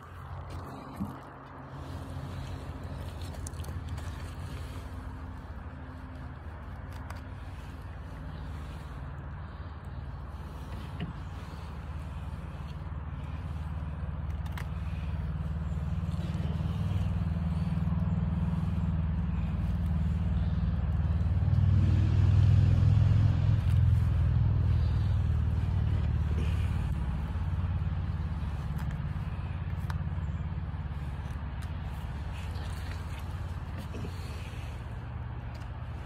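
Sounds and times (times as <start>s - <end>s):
vehicle engine rumble: 0.0s - 36.0s.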